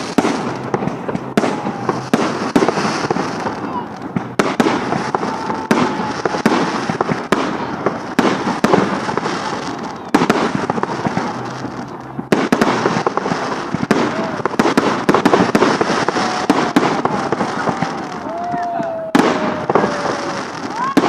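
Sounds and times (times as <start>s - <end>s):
fireworks bangs: 0.0s - 21.0s
fireworks crackle: 0.0s - 21.0s.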